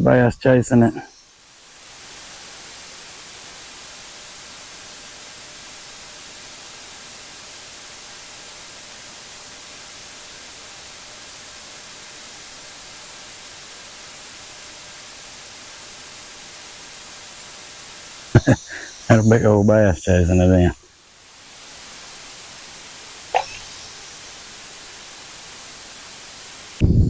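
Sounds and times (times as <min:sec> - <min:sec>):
steady static hiss: 0:00.0 - 0:27.0.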